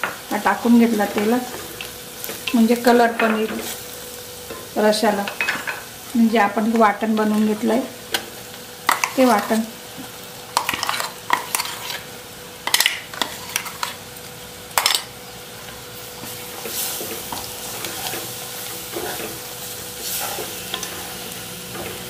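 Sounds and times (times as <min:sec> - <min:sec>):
masala sizzling in oil: 0:00.0 - 0:22.0.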